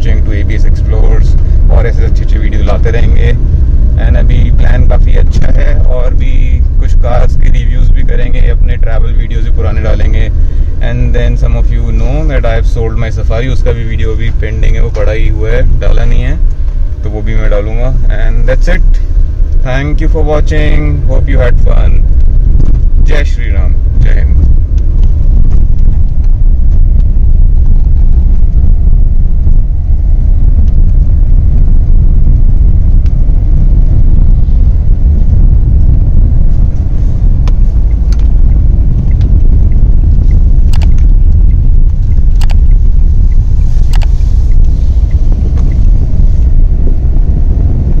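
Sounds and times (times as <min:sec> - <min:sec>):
road and tyre noise: 0:00.0 - 0:48.0.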